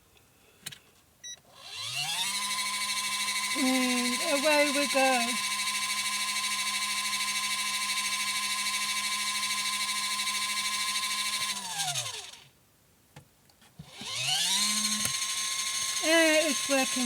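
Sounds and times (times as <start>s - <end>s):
spin dryer motor whine: 1.6s - 12.5s, 13.9s - 17.0s.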